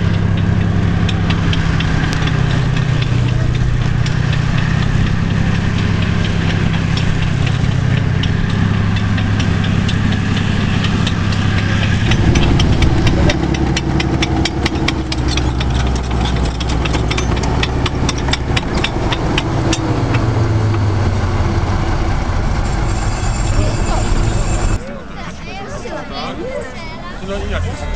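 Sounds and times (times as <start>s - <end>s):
metallic clanks of steel tracks: 0.0s - 24.9s
tank diesel engine hum: 0.0s - 27.9s.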